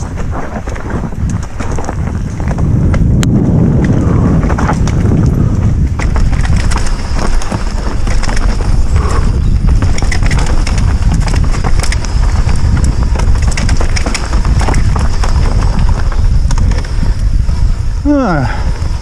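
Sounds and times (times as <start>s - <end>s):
mountain bike clattering and rattling: 0.0s - 18.0s
wind on microphone: 0.0s - 19.0s.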